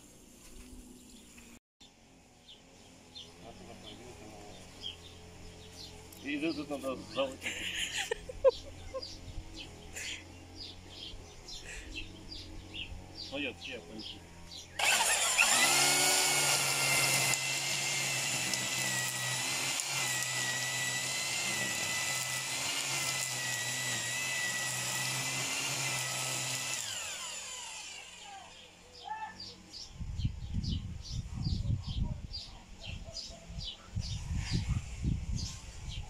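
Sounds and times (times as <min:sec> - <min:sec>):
string trimmer cutting grass: 0:00.0 - 0:31.2.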